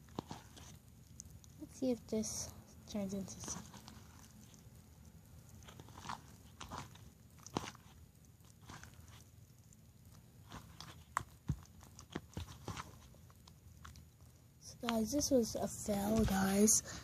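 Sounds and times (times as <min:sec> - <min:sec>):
slime squelching: 0:00.0 - 0:17.0.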